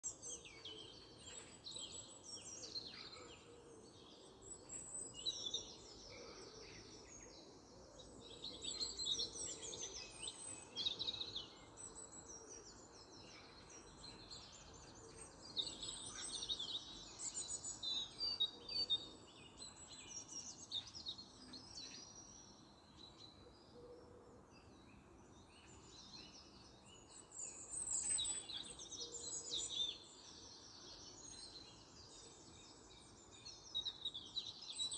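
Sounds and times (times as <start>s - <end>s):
faint background noise: 0.0s - 34.9s
songbirds singing and chirping: 0.0s - 34.9s.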